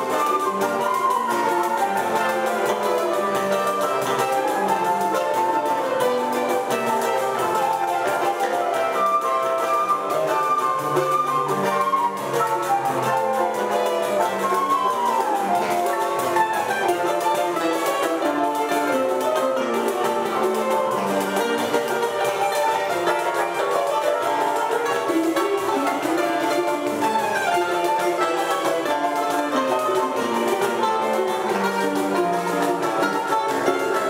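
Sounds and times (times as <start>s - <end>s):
acoustic guitar: 0.0s - 34.0s
bandolim melody: 0.0s - 34.0s
cavaquinho accompaniment: 0.0s - 34.0s
pandeiro rhythm: 0.0s - 34.0s.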